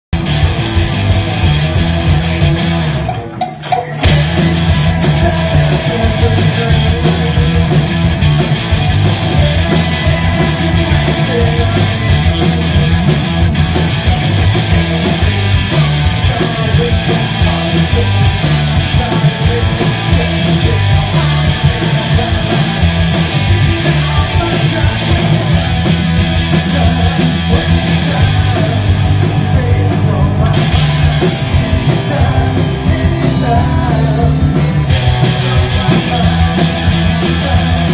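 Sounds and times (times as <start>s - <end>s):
punk rock band playing: 0.0s - 37.9s.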